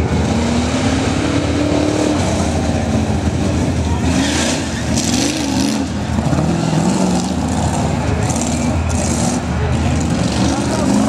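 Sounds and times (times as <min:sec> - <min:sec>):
truck engines revving: 0:00.0 - 0:11.0.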